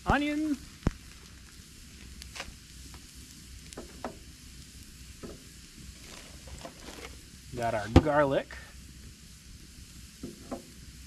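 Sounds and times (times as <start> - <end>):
campfire crackling and popping: 0.0 - 11.0
faint fire hiss: 0.0 - 11.0.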